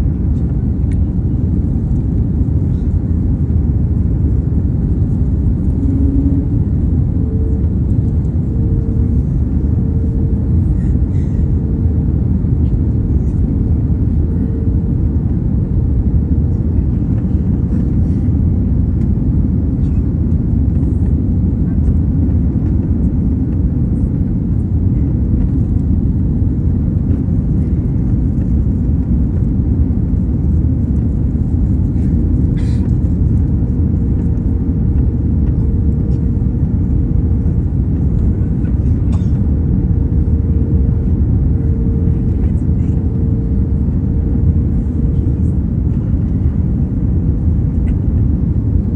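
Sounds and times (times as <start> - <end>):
jet cabin engine rumble: 0.0 - 48.9
steady hum tone: 0.0 - 48.9.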